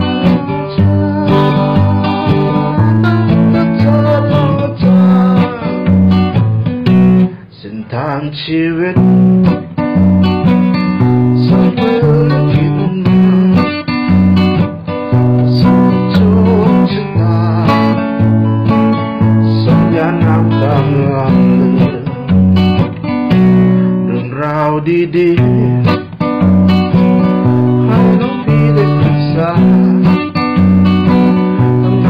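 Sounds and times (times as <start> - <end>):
guitar music with bass line: 0.0 - 32.0.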